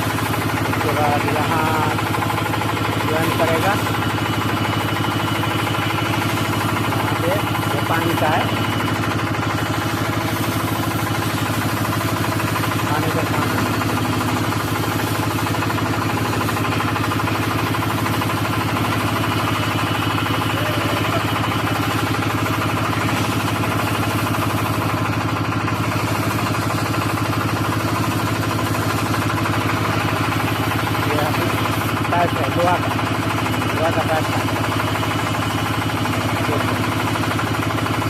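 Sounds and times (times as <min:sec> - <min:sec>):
engine droning steadily: 0:00.0 - 0:38.0.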